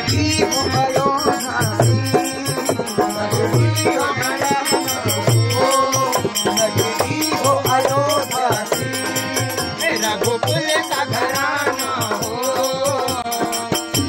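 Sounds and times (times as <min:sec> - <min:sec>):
harmonium: 0:00.0 - 0:14.0
person singing: 0:00.0 - 0:14.0
rattling hand percussion: 0:00.0 - 0:14.0
tabla beat: 0:00.0 - 0:14.0.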